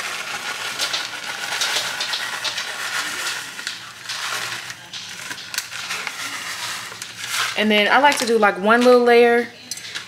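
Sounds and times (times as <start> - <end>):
plastic bag rustling: 0.0 - 9.1.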